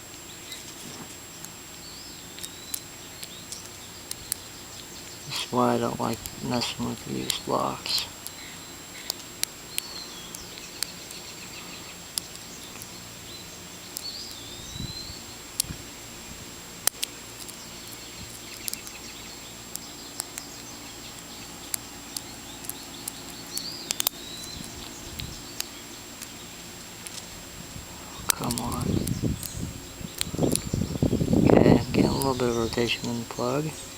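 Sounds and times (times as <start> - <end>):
bird chirping: 0.0 - 16.4, 17.0 - 33.9.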